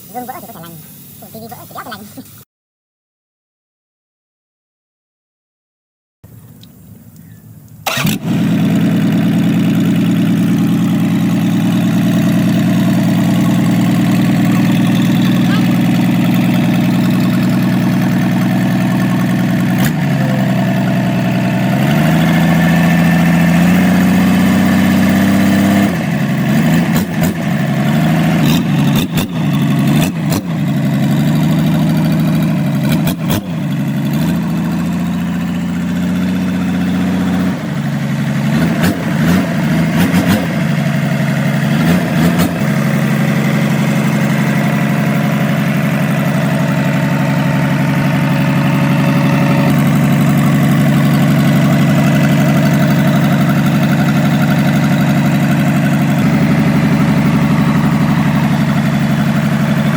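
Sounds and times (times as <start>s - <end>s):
diesel engine revving: 6.5s - 59.9s.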